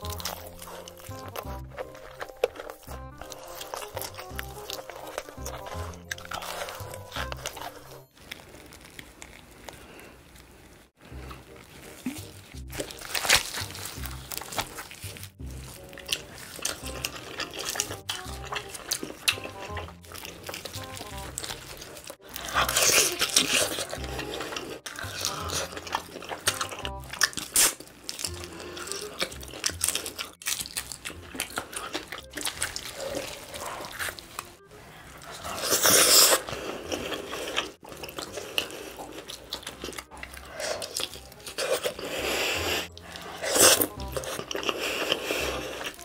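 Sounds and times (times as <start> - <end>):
background music: 0.0 - 8.2, 11.0 - 46.0
biting crunching and chewing: 0.0 - 46.0
tearing chicken meat and skin: 0.0 - 46.0.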